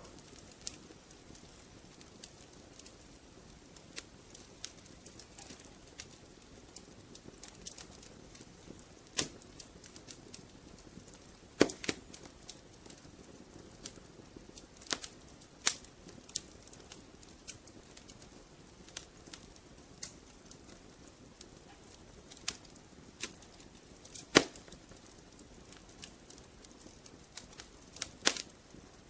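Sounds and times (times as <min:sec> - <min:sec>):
soft fire hiss: 0:00.0 - 0:29.0
wood fire crackling and popping: 0:00.0 - 0:29.0.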